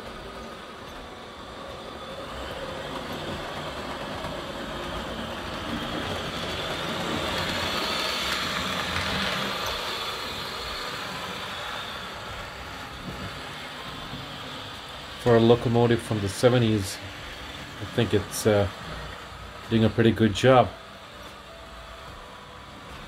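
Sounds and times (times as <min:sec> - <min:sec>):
model locomotive running on track: 0:00.0 - 0:23.0.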